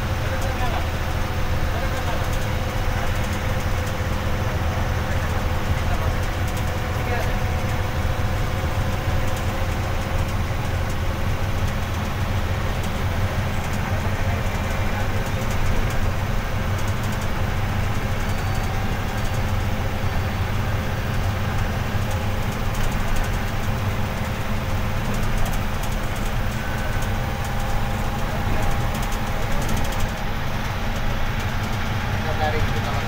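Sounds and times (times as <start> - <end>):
bus engine drone: 0.0 - 33.0
road rumble: 0.0 - 33.0.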